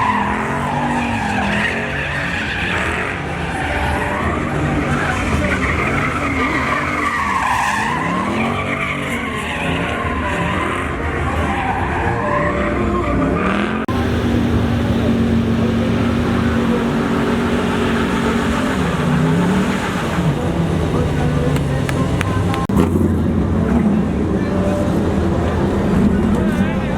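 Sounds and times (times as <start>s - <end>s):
tire squealing: 0.0s - 26.9s
truck engine revving: 0.0s - 26.9s.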